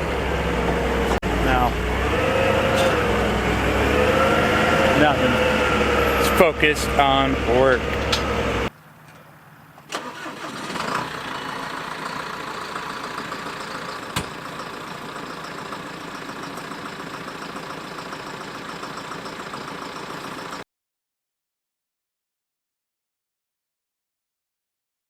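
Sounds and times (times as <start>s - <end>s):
engine idling: 0.0s - 20.6s.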